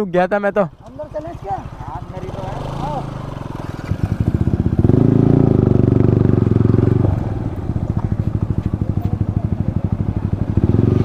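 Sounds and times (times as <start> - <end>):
motorcycle engine revving: 0.7 - 11.0.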